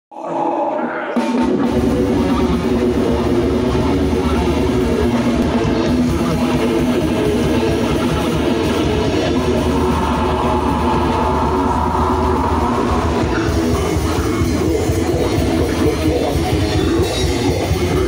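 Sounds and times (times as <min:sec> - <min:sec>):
drums: 0:00.1 - 0:18.0
electric guitars: 0:00.2 - 0:18.0
bass guitar: 0:01.2 - 0:18.0.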